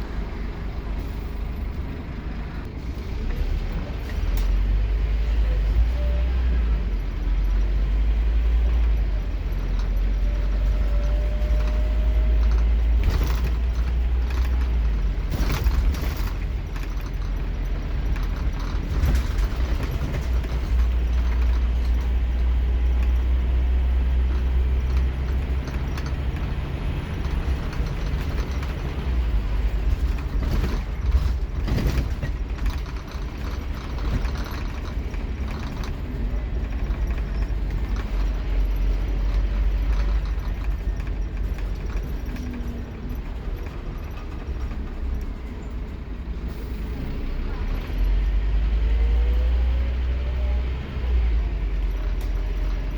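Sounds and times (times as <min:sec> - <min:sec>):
bus diesel engine accelerating: 0:00.0 - 0:52.9
knocks and rattles inside bus: 0:00.0 - 0:52.9.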